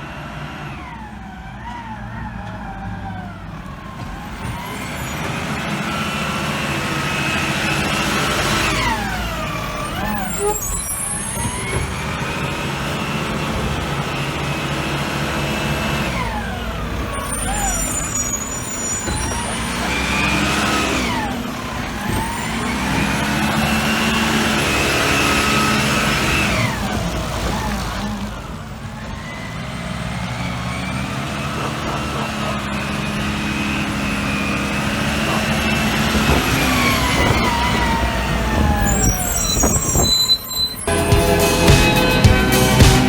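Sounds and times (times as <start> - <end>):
truck brakes squealing: 0.0 - 43.0
truck engine running: 0.0 - 43.0.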